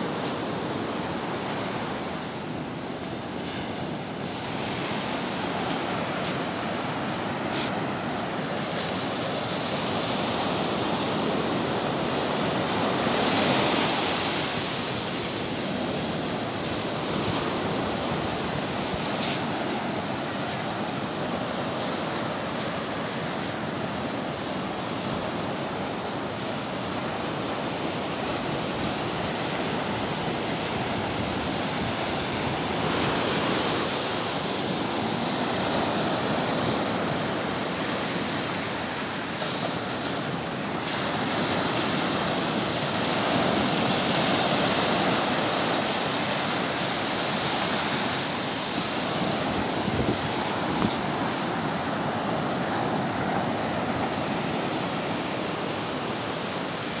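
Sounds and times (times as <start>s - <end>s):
small waves breaking on sand: 0.0s - 57.0s.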